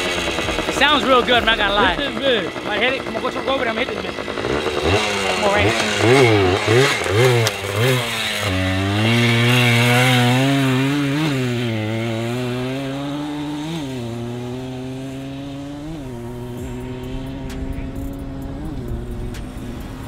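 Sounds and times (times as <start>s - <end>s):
two-stroke motorcycle riding off: 0.0s - 20.0s.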